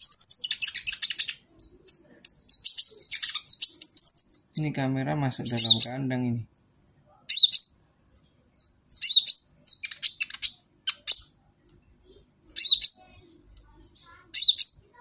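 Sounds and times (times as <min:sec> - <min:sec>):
bird chirping: 0:00.0 - 0:06.3, 0:07.1 - 0:15.0.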